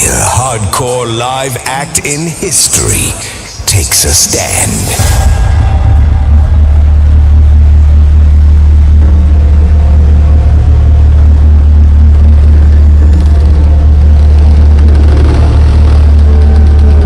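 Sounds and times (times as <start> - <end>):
loud low bass drone: 0.0 - 17.0.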